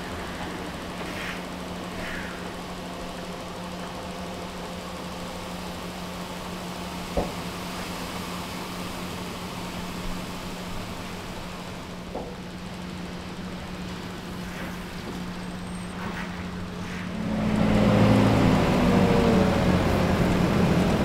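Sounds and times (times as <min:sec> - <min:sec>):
machinery engine hum: 0:00.0 - 0:21.0.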